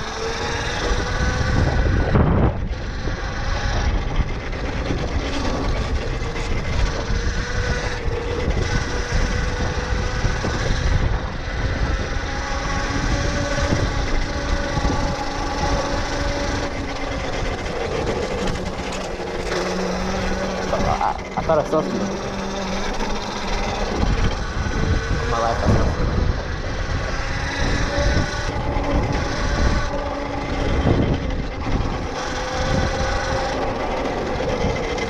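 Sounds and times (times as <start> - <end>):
electric motor whining: 0.0 - 35.0
low rumble: 0.0 - 35.0.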